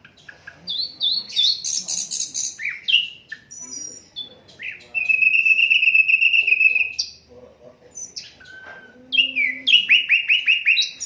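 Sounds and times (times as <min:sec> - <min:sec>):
bird singing chirps and whistles: 0:00.1 - 0:07.2, 0:07.9 - 0:11.0.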